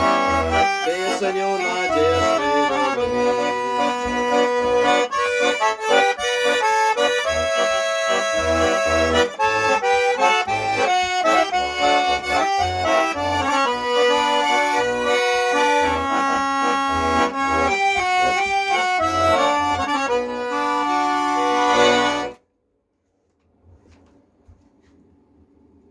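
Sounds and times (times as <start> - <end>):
pulsing bass notes: 0.0 - 22.3
accordion melody: 0.0 - 22.5.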